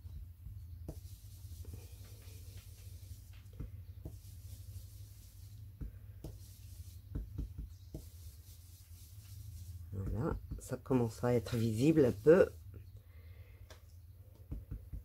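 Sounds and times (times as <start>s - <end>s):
fingertip rubbing and tapping: 0.0s - 12.9s, 14.3s - 15.0s.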